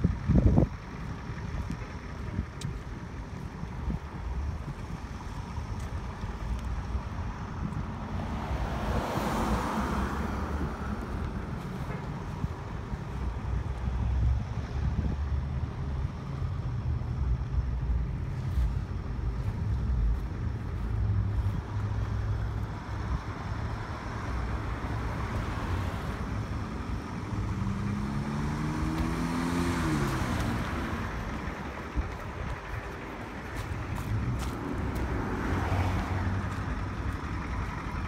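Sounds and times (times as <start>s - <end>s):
car engine accelerating: 0.0s - 38.0s
cars driving past: 0.0s - 38.0s
steady low traffic rumble: 0.0s - 38.0s.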